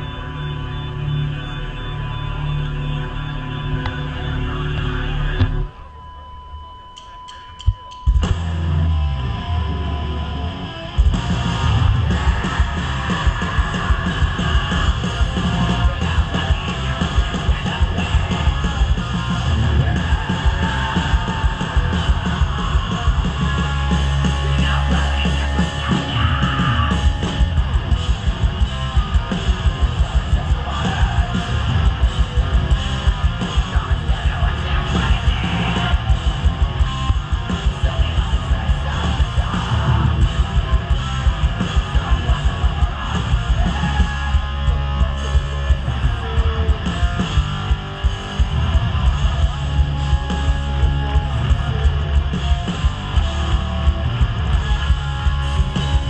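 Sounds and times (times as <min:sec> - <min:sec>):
distorted guitars: 0:00.0 - 0:56.0
fast pounding drums: 0:10.9 - 0:56.0.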